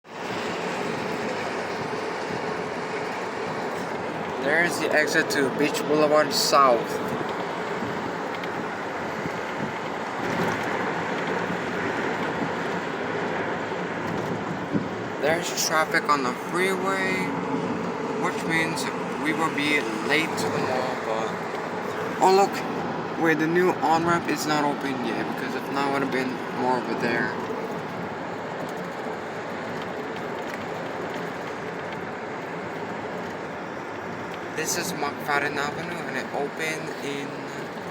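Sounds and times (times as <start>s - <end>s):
car road and wind noise: 0.0s - 37.9s.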